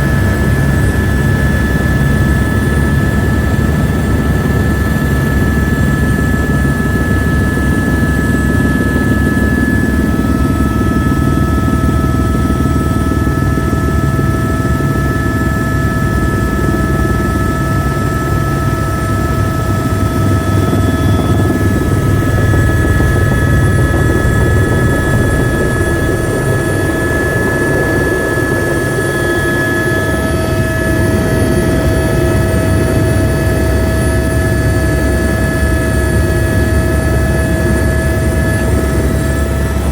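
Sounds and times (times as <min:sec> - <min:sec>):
helicopter rotor beat: 0:00.0 - 0:39.9
high turbine whine: 0:00.0 - 0:39.9.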